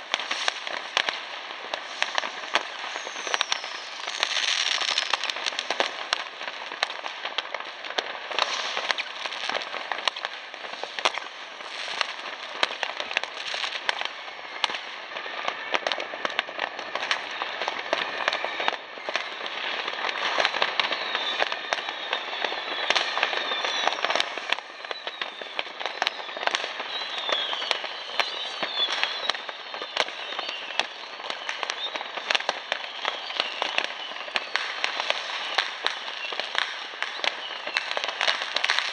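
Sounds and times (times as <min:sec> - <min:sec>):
firecrackers crackling: 0:00.0 - 0:38.9
whistling fireworks: 0:00.0 - 0:38.9.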